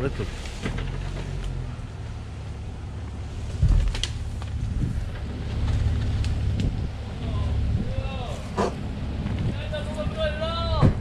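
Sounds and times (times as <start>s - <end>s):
engine rumbling at low revs: 0.0s - 11.0s.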